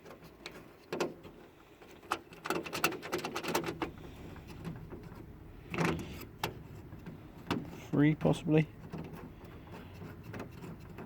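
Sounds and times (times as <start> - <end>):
metal parts clicking and knocking: 0.0 - 11.0.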